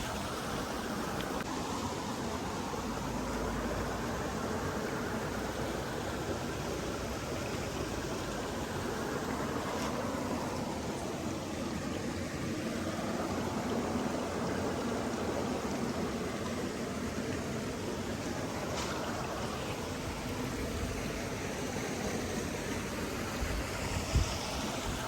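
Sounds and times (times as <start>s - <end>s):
water rushing: 0.0s - 25.0s.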